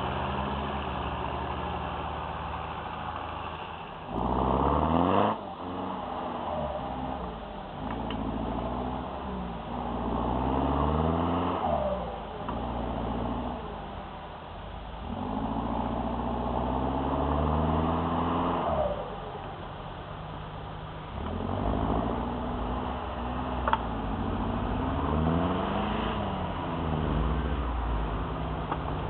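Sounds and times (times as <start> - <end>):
off-road vehicle engine revving: 0.0 - 14.1, 15.0 - 19.5, 21.0 - 29.0.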